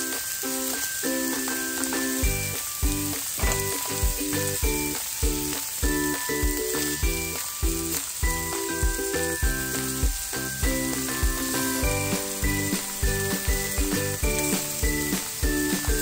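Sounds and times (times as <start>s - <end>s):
background music with beat: 0.0s - 16.0s
mushrooms sizzling in pan: 0.0s - 16.0s.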